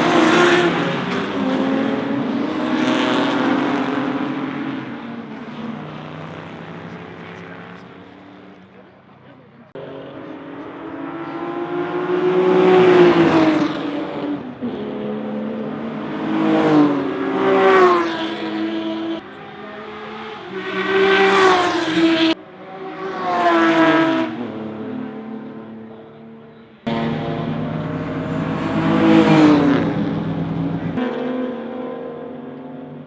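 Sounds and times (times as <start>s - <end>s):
racing cars passing at speed: 0.0s - 33.0s.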